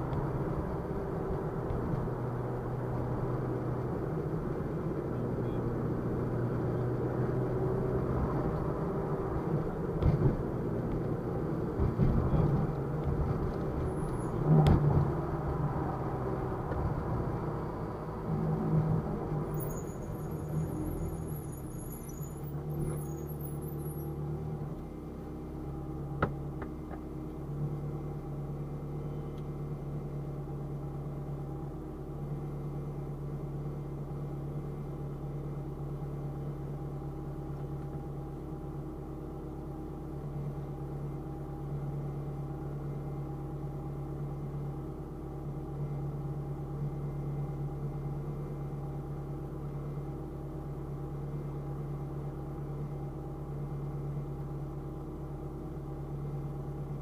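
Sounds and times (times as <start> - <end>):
car idling hum: 0.0 - 18.4, 19.0 - 57.0.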